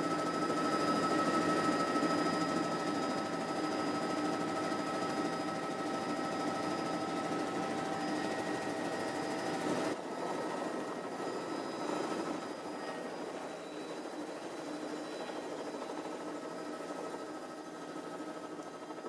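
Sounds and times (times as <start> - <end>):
helicopter flying: 0.0 - 19.0.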